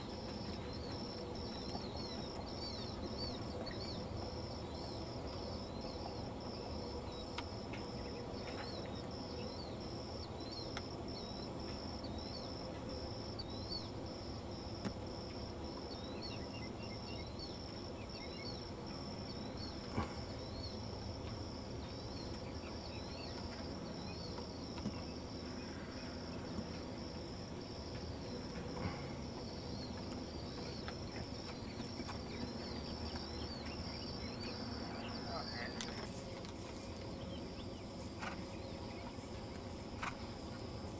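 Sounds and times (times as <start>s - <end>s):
crickets chirping: 0.0s - 40.9s
steady low hiss: 0.0s - 40.9s.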